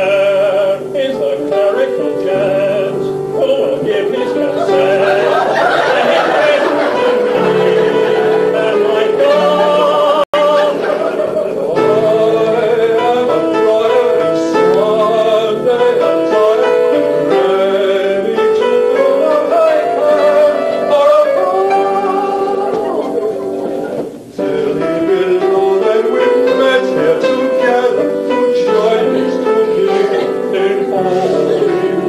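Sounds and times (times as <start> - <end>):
mixed chorus singing operatically: 0.0 - 32.0.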